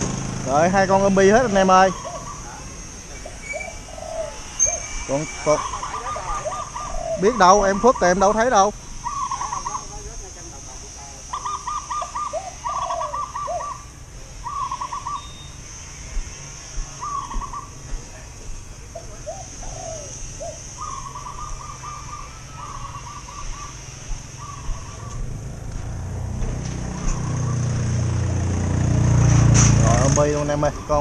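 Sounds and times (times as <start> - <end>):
high-pitched hiss: 0.0 - 26.0
birds calling: 0.0 - 31.0.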